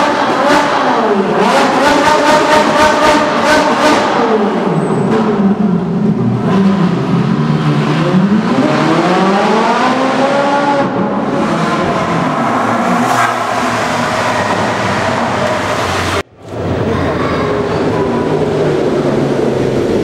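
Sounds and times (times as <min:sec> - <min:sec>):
sports car engine revving: 0:00.0 - 0:16.7.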